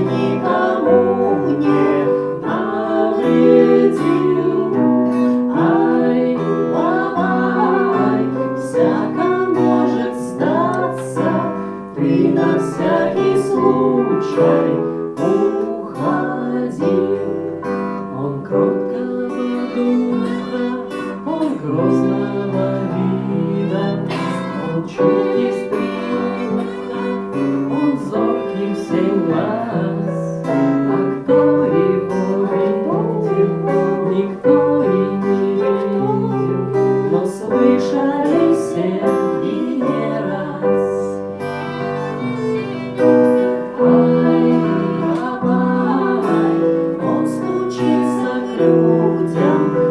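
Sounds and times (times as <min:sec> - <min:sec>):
acoustic band playing lullaby: 0:00.0 - 0:49.9
guitar: 0:00.0 - 0:49.9.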